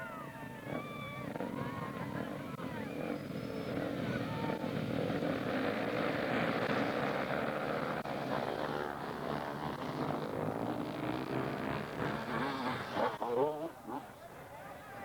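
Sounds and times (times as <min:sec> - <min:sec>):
motocross bike engine: 0:00.0 - 0:15.0.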